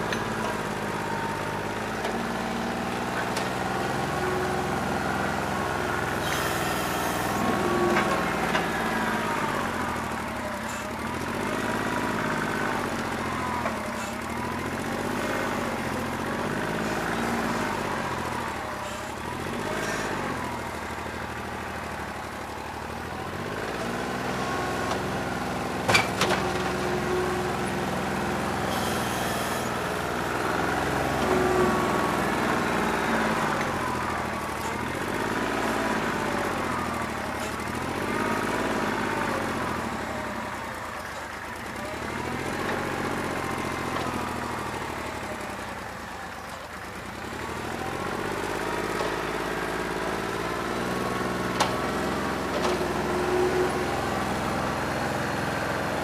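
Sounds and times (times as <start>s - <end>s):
diesel tractor engine revving: 0.0s - 56.0s.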